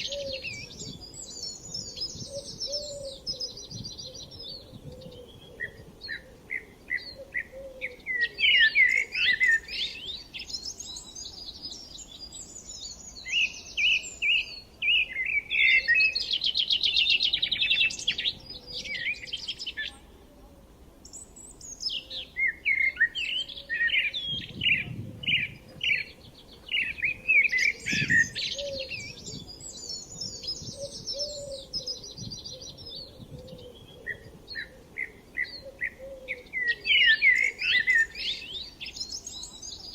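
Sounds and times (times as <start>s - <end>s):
birds chirping and trilling: 0.0s - 20.1s, 21.0s - 39.9s.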